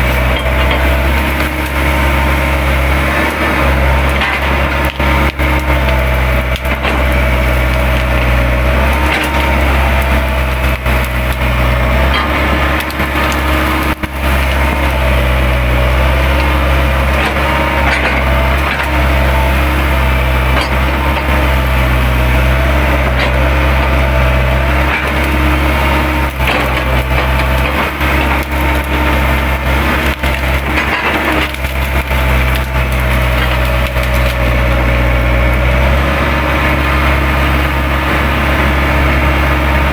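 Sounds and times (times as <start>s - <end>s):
branches cracking and splintering: 0.0s - 39.9s
excavator diesel engine: 0.0s - 39.9s
hydraulic whine: 0.0s - 39.9s.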